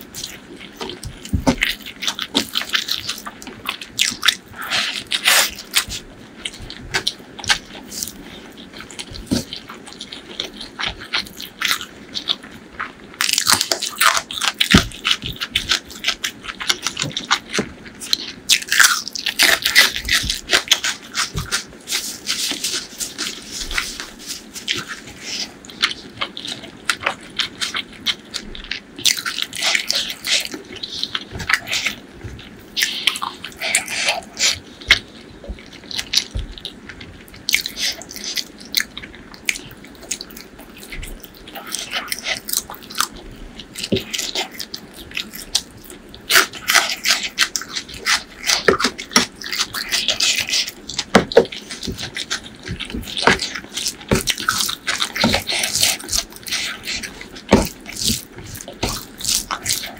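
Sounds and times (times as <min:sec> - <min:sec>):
close biting and chewing: 0:00.0 - 0:59.9
mouth clicks and crackles: 0:00.0 - 0:59.9.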